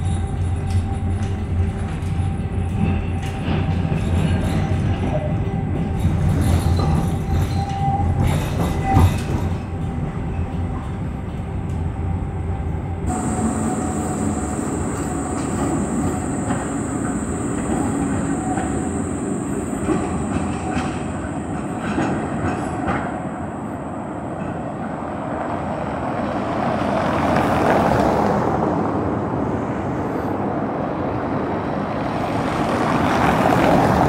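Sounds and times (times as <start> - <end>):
tram rumbling: 0.0 - 34.0
tram wheel and motor noise: 0.0 - 34.0.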